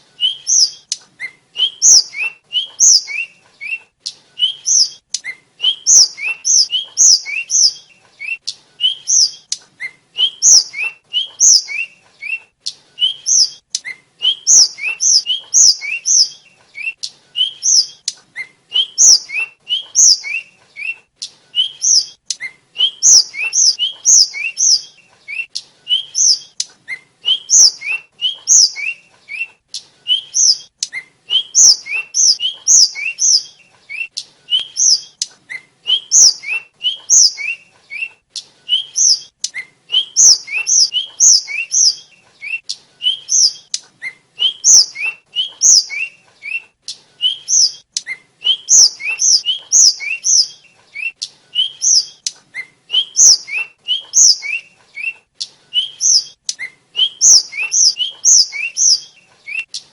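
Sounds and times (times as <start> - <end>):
songbird whistled chirps: 0.0 - 59.9.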